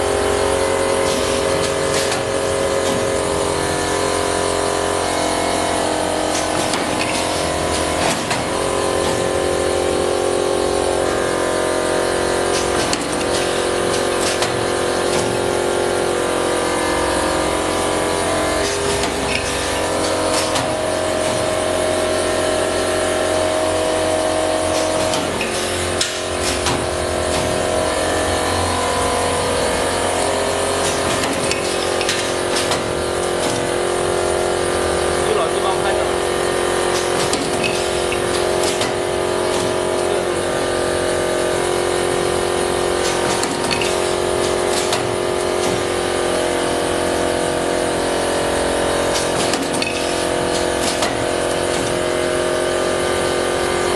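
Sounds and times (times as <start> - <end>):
lathe machine hum: 0.0 - 53.9.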